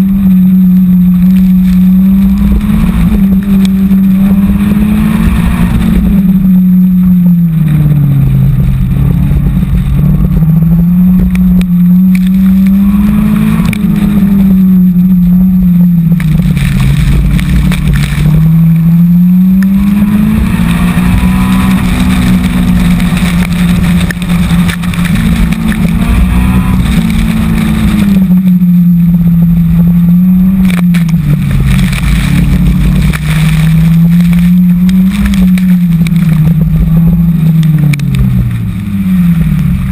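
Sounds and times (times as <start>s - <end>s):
car engine revving: 0.0s - 39.9s
wind and wet road noise: 0.0s - 39.9s.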